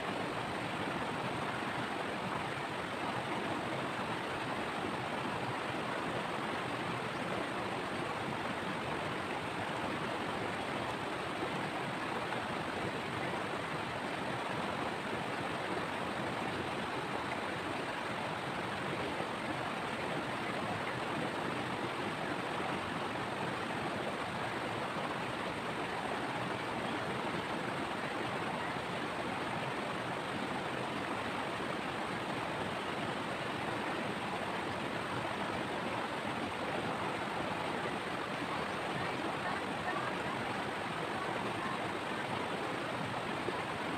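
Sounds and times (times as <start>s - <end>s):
river rushing over stones: 0.0s - 43.9s.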